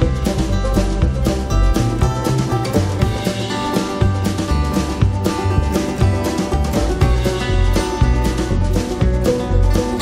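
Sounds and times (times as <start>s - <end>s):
steady bass beat: 0.0s - 10.0s
upbeat plucked string music: 0.0s - 10.0s.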